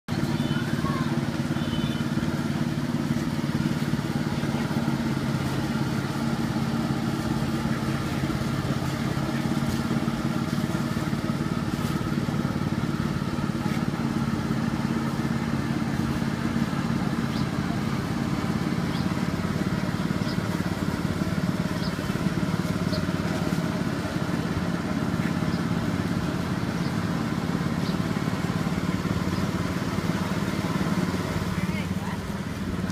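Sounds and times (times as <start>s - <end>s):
faint voices: 0.1s - 32.9s
small engine running: 0.1s - 32.9s.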